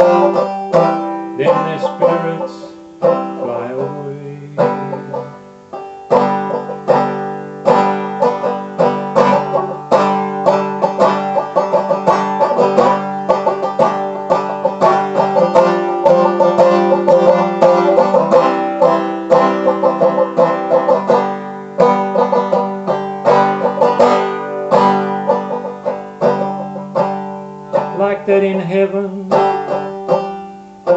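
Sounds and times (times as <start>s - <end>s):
banjo picking: 0.0s - 30.9s.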